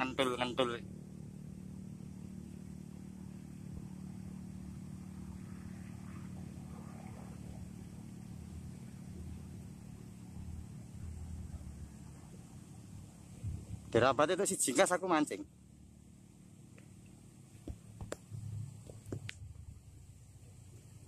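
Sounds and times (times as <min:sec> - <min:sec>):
motor engine humming: 0:00.0 - 0:21.0.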